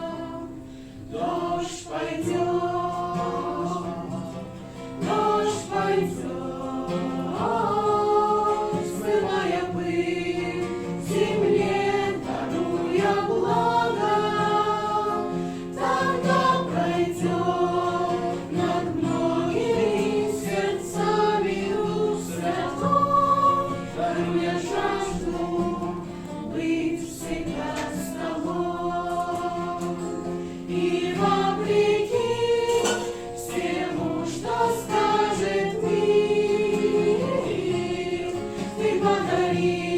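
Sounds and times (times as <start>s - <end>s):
choir singing worship song: 0.0s - 39.9s.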